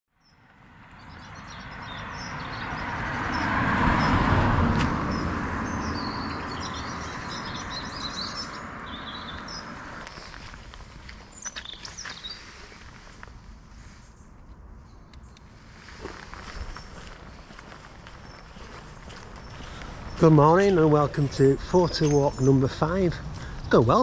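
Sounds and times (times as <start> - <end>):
small birds chirping: 0.2 - 4.3, 5.0 - 24.0
car passing: 0.2 - 14.0, 15.5 - 24.0.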